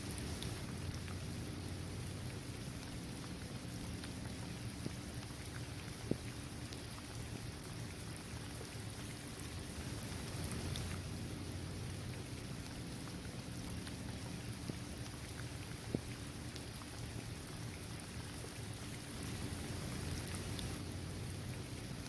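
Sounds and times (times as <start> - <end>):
rain on court and trees: 0.0 - 22.0.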